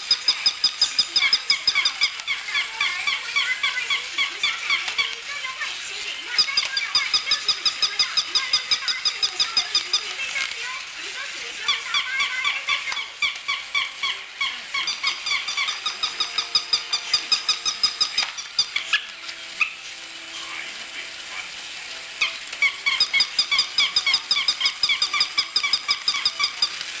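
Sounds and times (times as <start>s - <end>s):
toy puppies yapping: 0.1s - 5.3s, 6.3s - 10.7s, 11.6s - 19.9s, 22.2s - 27.0s.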